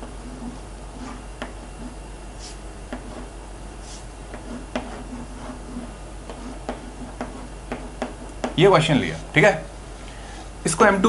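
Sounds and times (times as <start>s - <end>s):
chalk tapping on blackboard: 0.0s - 9.2s
chalk scratching on blackboard: 0.0s - 9.3s
low steady hum: 0.0s - 11.0s.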